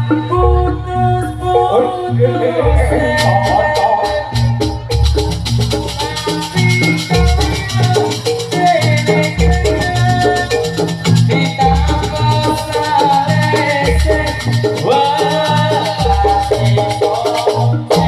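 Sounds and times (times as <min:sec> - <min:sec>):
pitched metal tones melody: 0:00.0 - 0:18.0
fast dense percussion: 0:02.1 - 0:18.0.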